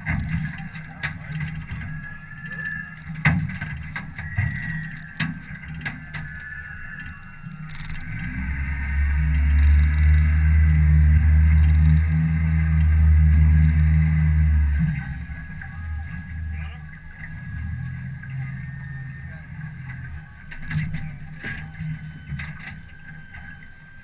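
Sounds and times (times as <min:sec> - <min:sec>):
outboard motor droning: 0:00.0 - 0:24.0.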